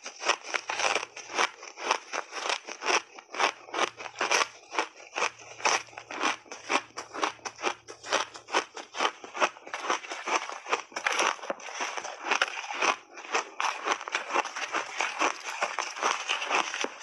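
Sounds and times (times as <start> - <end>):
chewing crunchy ice: 0.0 - 17.0.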